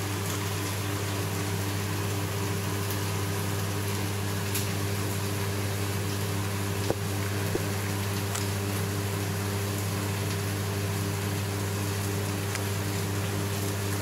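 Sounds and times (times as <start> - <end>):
aquarium pump hum: 0.0 - 14.0.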